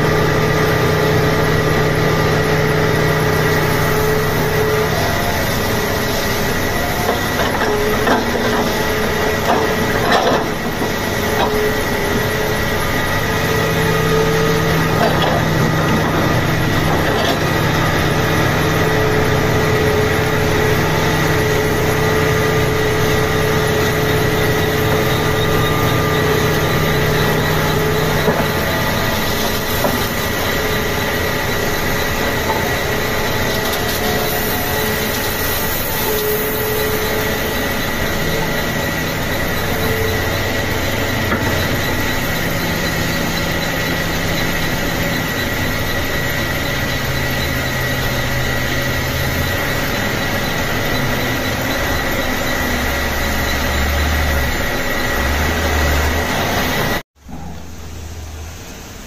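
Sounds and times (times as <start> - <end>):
excavator diesel engine working: 0.0 - 59.0
high whine: 0.0 - 59.0.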